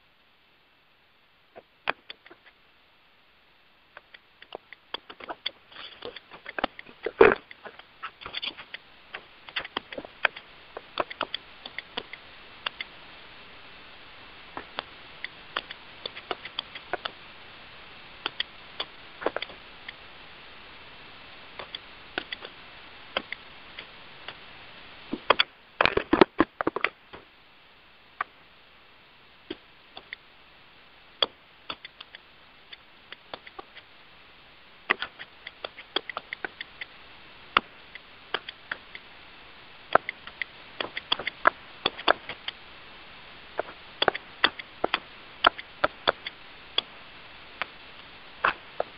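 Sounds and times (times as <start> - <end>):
low hiss: 0.0 - 48.9.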